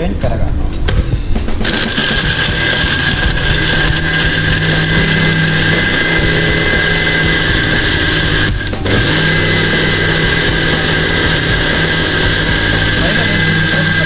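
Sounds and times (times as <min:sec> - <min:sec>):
blender motor running: 0:01.6 - 0:14.0.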